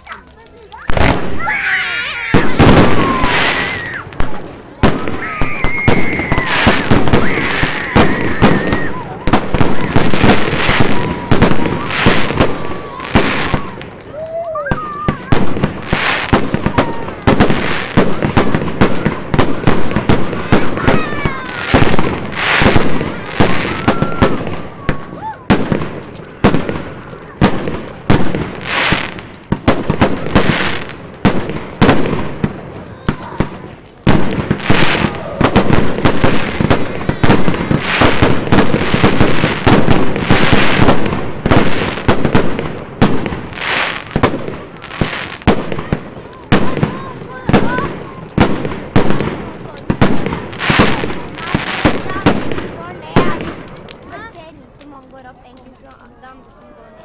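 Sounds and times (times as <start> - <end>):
fireworks hissing: 0.0 - 56.8
fireworks bangs and crackles: 0.0 - 57.0.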